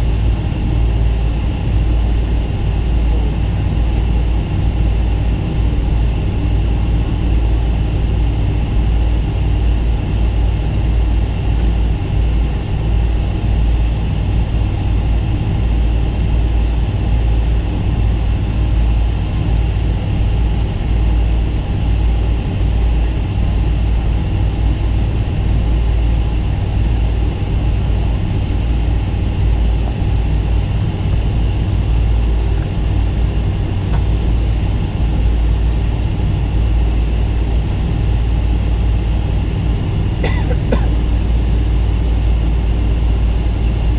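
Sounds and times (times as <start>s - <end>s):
constant hum: 0.0s - 43.9s
engines and wheels rumbling: 0.0s - 43.9s.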